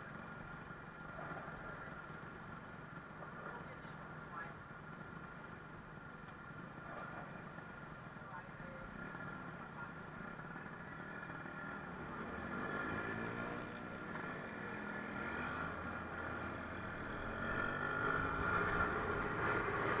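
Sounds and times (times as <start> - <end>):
scooter engine idling and pulling away: 0.0 - 20.0.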